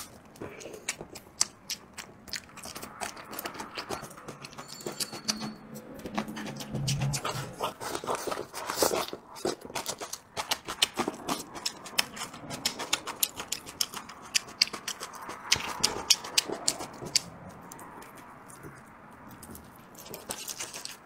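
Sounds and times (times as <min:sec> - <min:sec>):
chewing and lip smacking: 0:00.0 - 0:21.0.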